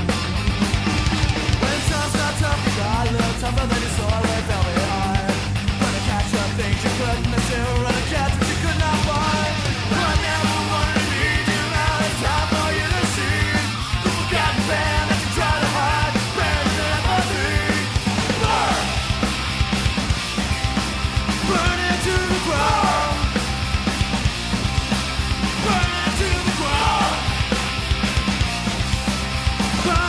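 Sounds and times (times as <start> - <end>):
fast rock song: 0.0 - 30.0.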